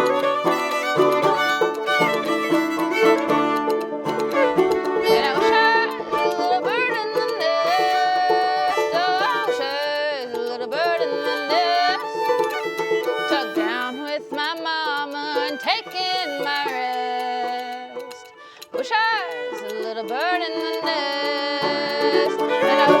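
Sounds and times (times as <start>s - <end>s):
banjo: 0.0s - 23.0s
fiddle melody: 0.0s - 23.0s
spoons clicking: 0.0s - 23.0s.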